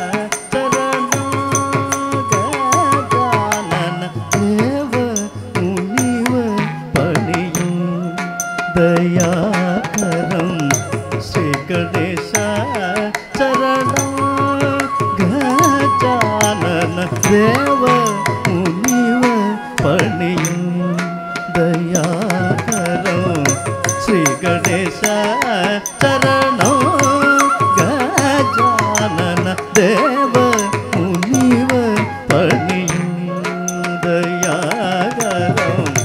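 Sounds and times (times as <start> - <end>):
person singing: 0.0 - 36.0.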